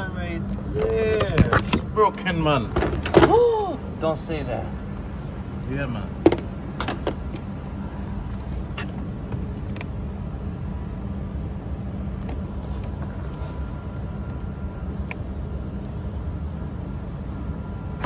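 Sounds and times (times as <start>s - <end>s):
car engine running: 1.2s - 18.0s.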